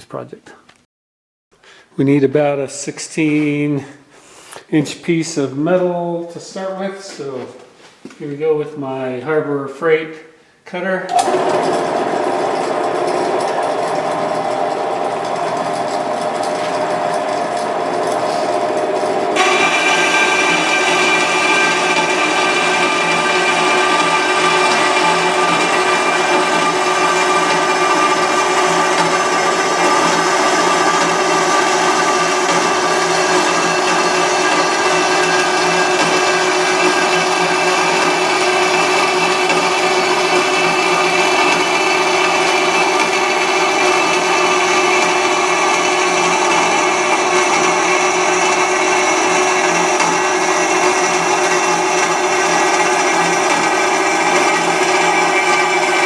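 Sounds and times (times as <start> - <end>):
electric saw cutting steel: 11.1 - 56.0.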